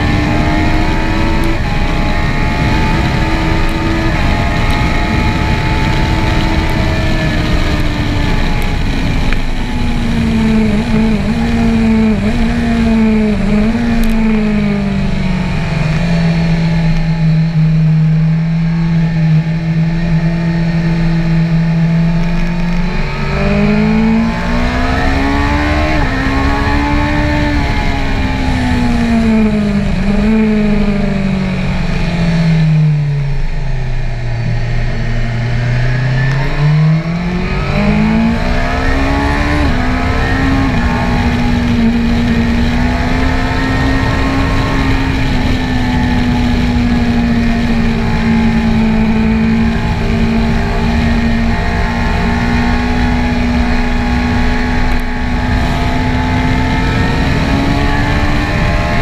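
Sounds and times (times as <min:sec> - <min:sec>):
motorcycle engine: 0:00.0 - 0:59.0
wind rush over microphone: 0:00.0 - 0:59.0.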